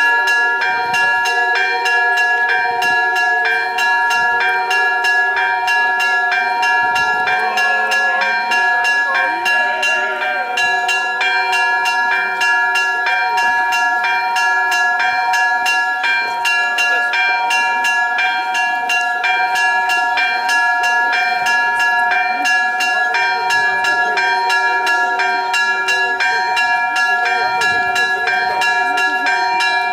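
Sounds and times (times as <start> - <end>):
hum of large bells: 0.0 - 29.9
small church bells chiming: 0.0 - 29.9.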